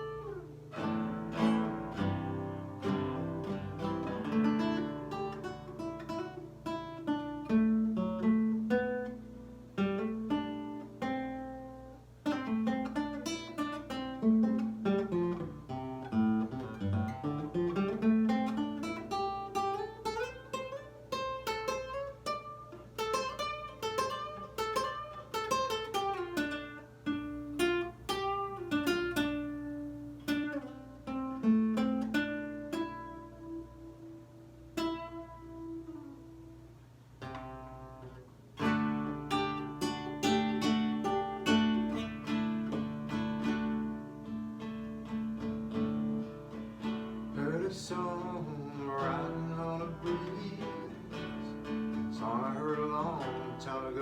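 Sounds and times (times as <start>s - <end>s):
fingerpicked nylon-string guitar: 0.0s - 54.0s.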